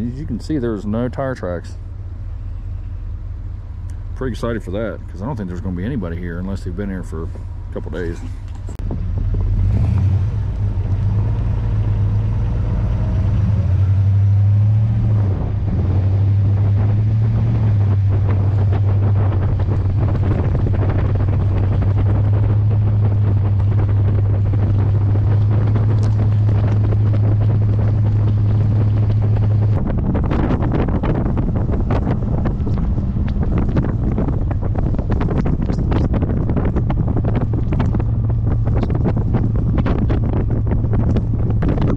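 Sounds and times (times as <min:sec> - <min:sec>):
vehicle engine and tyres droning: 0:00.0 - 0:41.9
wind on microphone: 0:00.0 - 0:41.9.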